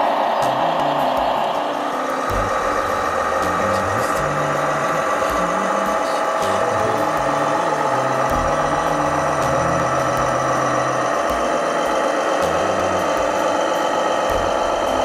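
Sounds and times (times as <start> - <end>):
toy truck engine sound: 0.0 - 15.0.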